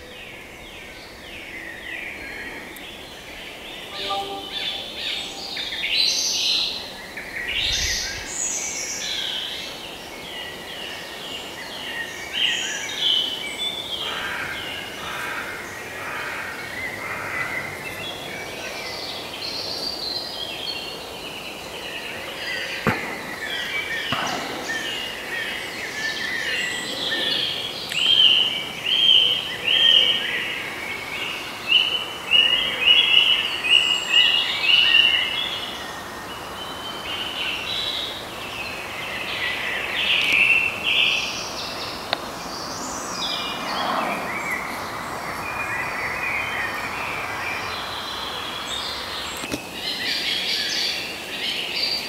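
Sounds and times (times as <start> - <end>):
birds singing: 0.0 - 52.0.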